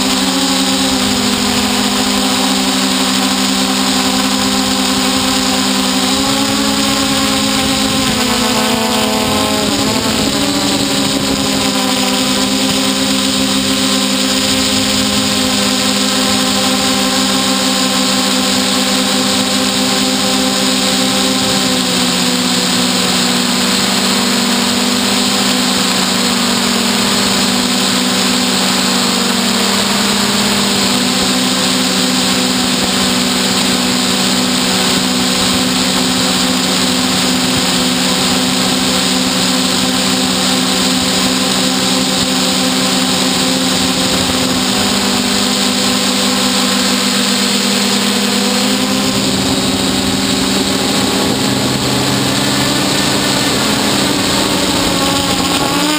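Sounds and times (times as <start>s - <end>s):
drone motors whining: 0.0s - 55.9s.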